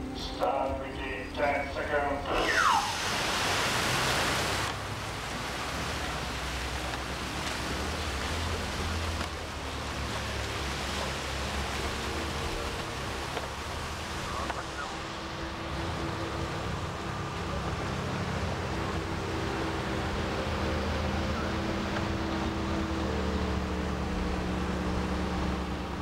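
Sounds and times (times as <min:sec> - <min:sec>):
water rushing and splashing: 0:00.0 - 0:26.0.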